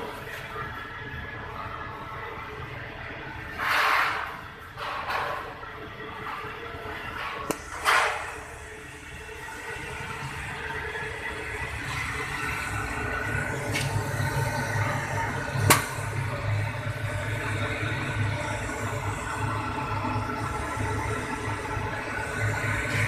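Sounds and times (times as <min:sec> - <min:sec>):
oven burner and blower rumble: 0:00.0 - 0:23.0.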